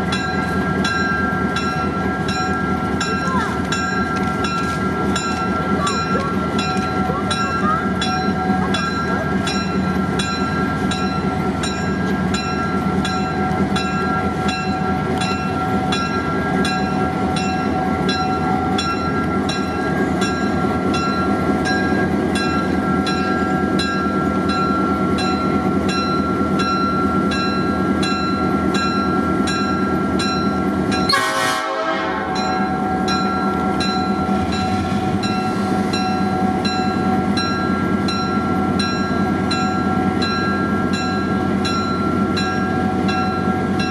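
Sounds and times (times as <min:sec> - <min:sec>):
locomotive bell ringing: 0:00.0 - 0:43.9.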